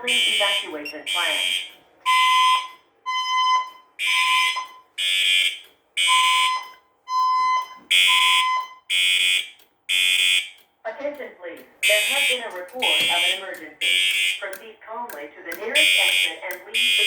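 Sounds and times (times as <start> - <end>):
fire alarm buzzing pulses: 0.0 - 10.8, 11.8 - 14.7, 15.5 - 17.0.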